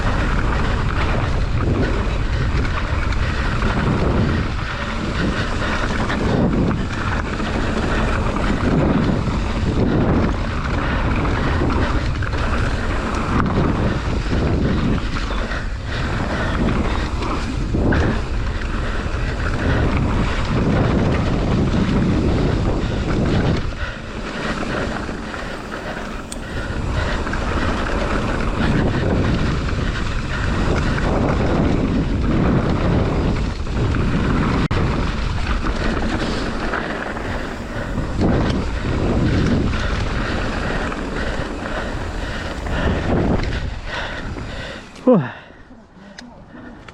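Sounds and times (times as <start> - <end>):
mountain bike rattling on dirt trail: 0.0 - 46.9
wind on microphone: 0.0 - 46.9.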